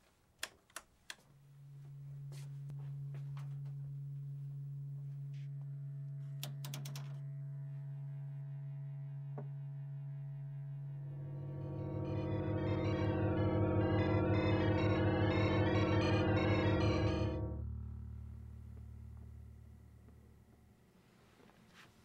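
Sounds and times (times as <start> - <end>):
low electric hum: 1.1 - 22.0.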